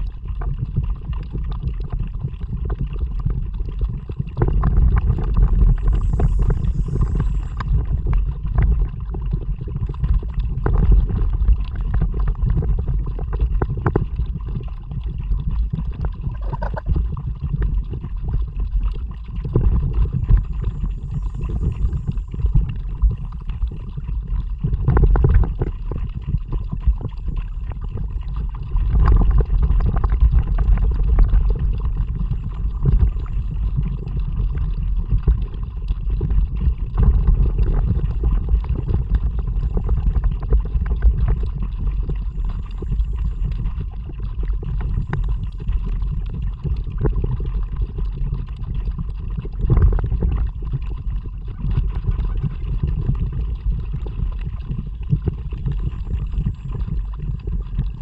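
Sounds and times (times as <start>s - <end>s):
water gurgling along hull: 0.0s - 58.0s.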